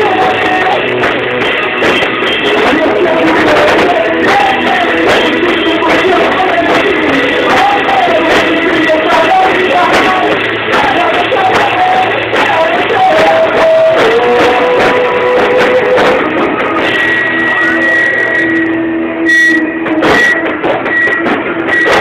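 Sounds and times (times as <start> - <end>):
band playing rock music: 0.0 - 22.0
high sustained tone: 0.0 - 22.0.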